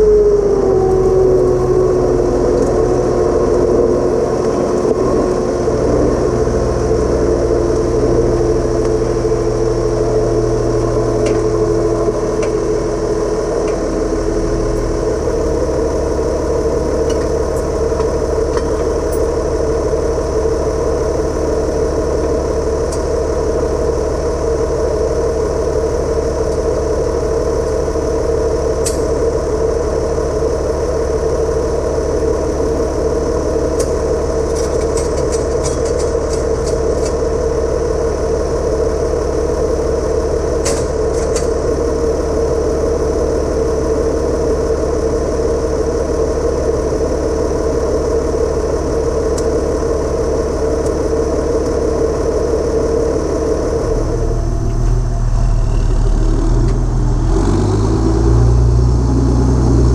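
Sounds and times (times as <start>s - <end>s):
tractor diesel engine idling: 0.0s - 59.9s
tractor driving off rumble: 0.0s - 59.9s.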